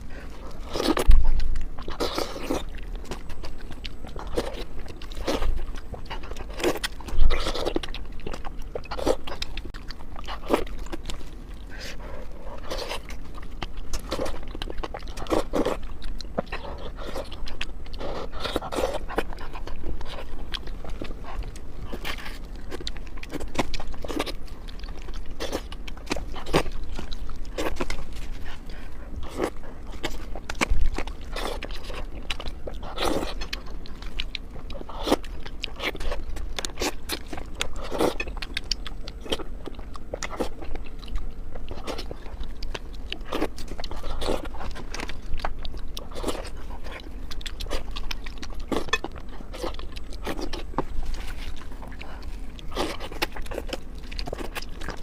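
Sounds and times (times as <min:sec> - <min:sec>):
person chewing crispy food: 0:00.0 - 0:55.0.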